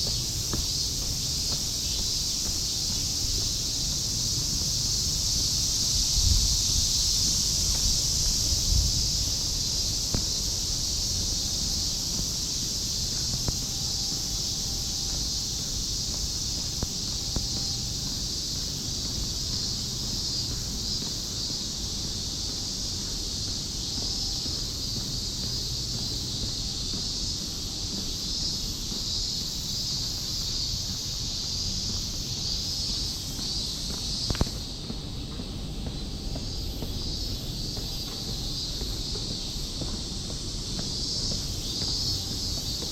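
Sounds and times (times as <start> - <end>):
cicadas droning: 0.0 - 42.9
low wind rumble: 0.0 - 42.9.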